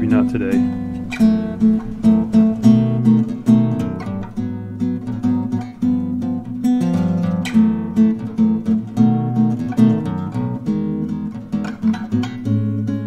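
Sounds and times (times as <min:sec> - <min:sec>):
guitar playing plucked notes: 0:00.0 - 0:13.0.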